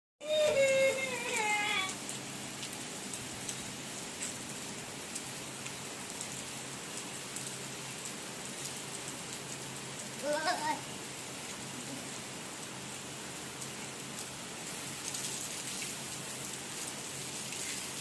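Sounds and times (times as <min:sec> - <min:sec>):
rain on concrete: 0:00.2 - 0:18.0.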